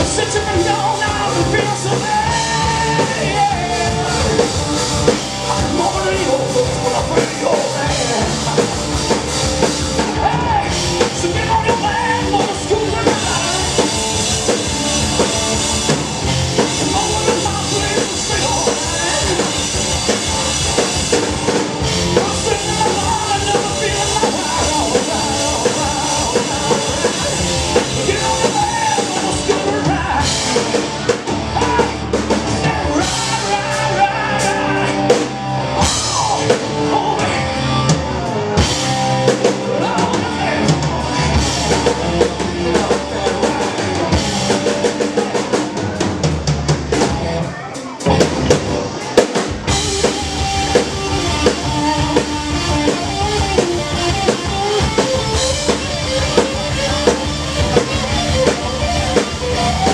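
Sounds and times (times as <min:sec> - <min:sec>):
drum kit beat: 0:00.0 - 0:59.9
electric guitar lines: 0:00.0 - 0:59.9.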